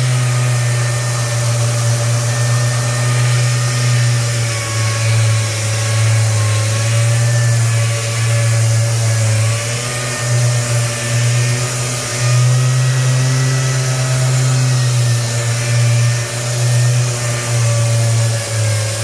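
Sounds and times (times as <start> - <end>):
orbital sander humming and hissing: 0.0 - 19.0.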